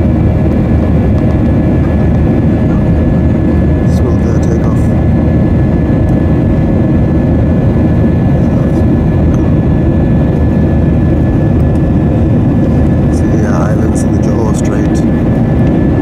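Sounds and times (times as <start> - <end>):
jet engine cabin roar: 0.0 - 16.0.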